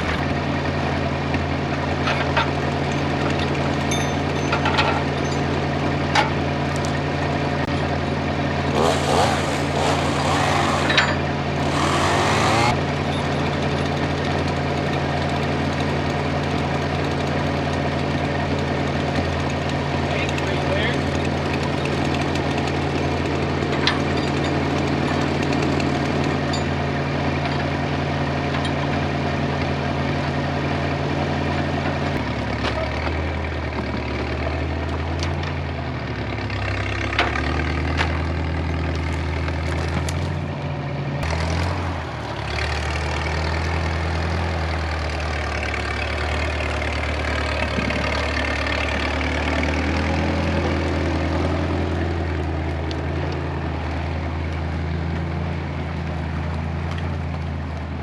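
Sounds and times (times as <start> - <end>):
tractor engine running: 5.0 - 58.0.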